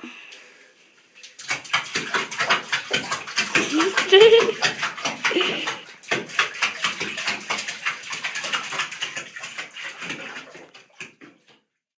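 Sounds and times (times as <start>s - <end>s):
dog splashing in water: 1.2s - 11.7s.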